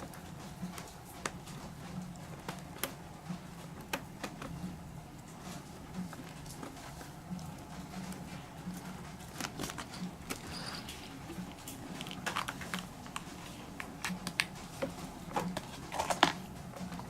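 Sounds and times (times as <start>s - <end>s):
brush tapping and scratching fur: 0.0s - 17.0s.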